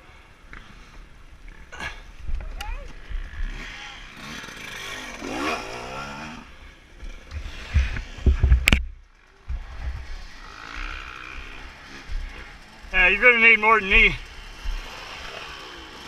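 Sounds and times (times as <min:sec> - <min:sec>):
dirt bike engine revving: 0:03.0 - 0:16.0.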